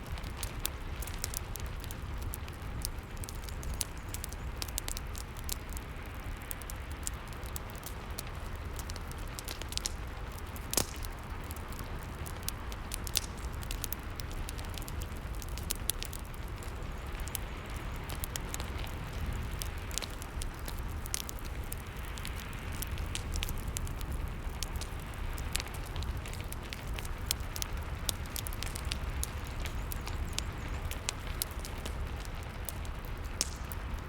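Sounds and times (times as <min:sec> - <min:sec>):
fireplace crackling: 0:00.0 - 0:34.0.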